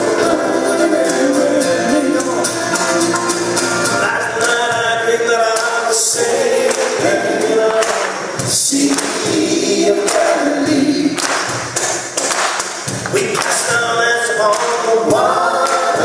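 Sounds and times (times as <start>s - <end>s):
group singing in harmony: 0.0s - 12.1s, 13.1s - 16.0s.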